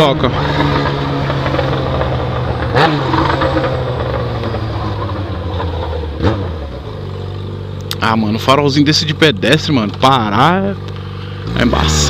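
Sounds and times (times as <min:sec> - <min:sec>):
motorcycle engine with loud exhaust: 0:00.0 - 0:12.0.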